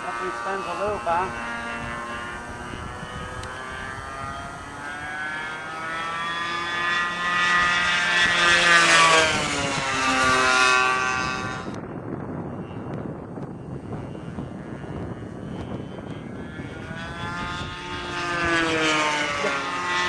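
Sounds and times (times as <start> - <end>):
model airplane engine whine: 0.0 - 20.0.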